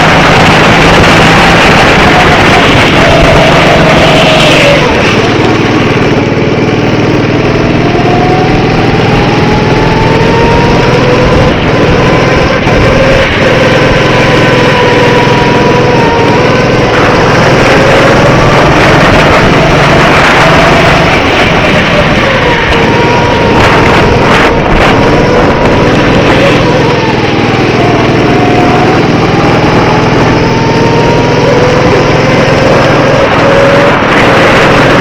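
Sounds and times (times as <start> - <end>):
go-kart engine running hard: 0.0 - 35.0
steady rush of noise: 0.0 - 35.0.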